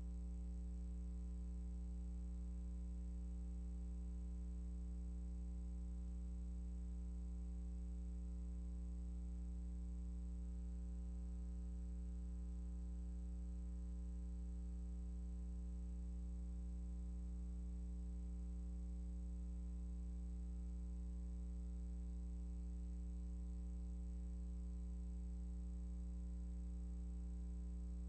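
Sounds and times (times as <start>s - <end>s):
faint high-pitched whine: 0.0s - 28.0s
low electrical hum: 0.0s - 28.0s.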